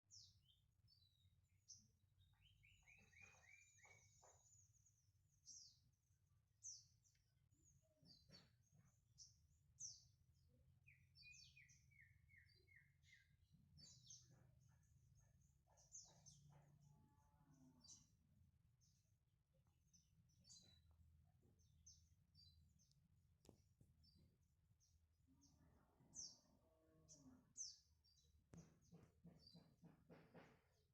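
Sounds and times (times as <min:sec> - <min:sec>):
faint songbirds chirping: 0:00.0 - 0:30.9.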